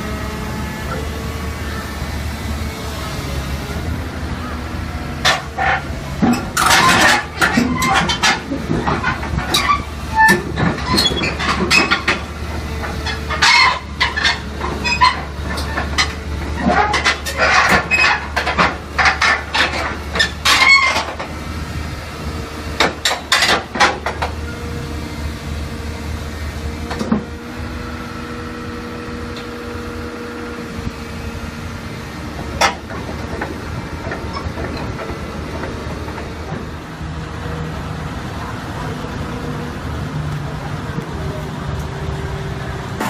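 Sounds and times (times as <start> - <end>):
heavy vehicle engine running: 0.0 - 43.0.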